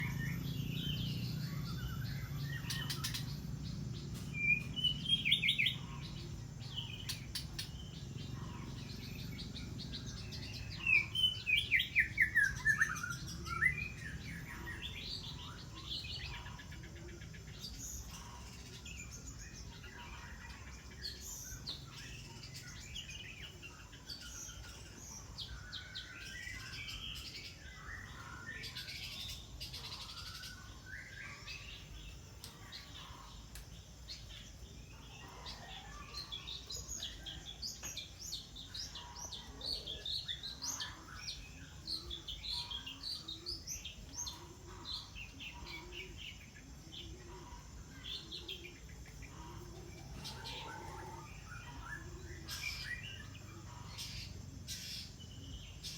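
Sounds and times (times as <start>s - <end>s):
birds chirping and singing: 0.0s - 55.9s.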